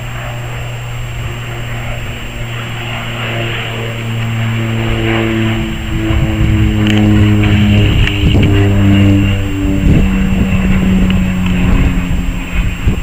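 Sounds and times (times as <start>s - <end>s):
turboprop plane passing overhead: 0.0s - 13.0s.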